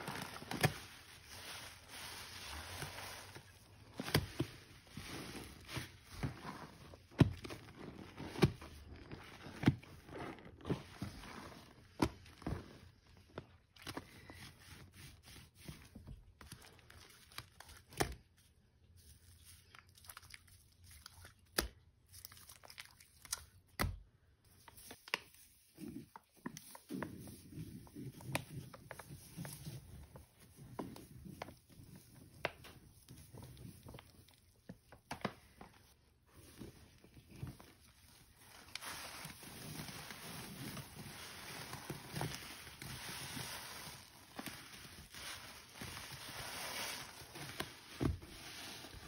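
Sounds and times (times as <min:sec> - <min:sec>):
soapy sponge squelching: 0:00.0 - 0:23.7, 0:24.5 - 0:49.0.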